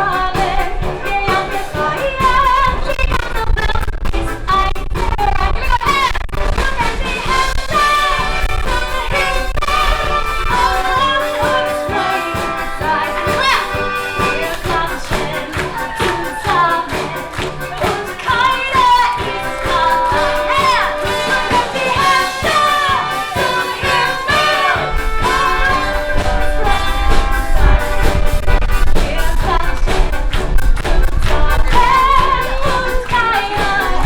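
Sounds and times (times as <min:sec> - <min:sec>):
heavy bass: 0:00.0 - 0:34.0
music with sung melody: 0:00.0 - 0:34.0.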